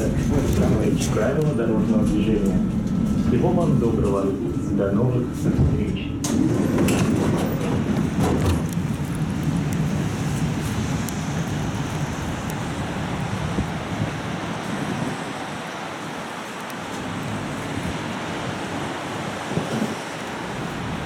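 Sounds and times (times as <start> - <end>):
vehicle and road rumble: 0.0 - 21.0.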